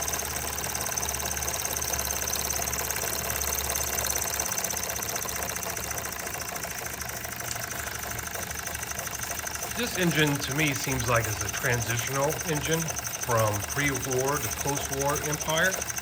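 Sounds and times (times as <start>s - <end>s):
toy steam engine clatter: 0.0s - 16.0s.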